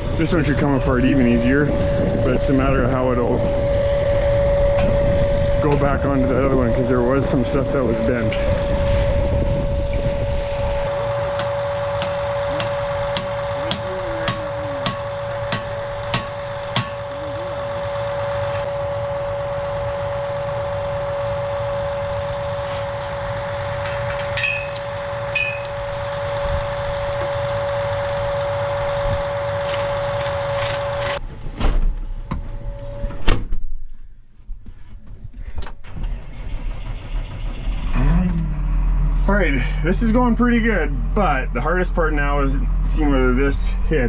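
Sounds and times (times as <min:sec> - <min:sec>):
tractor engine running with whine: 0:00.0 - 0:44.0.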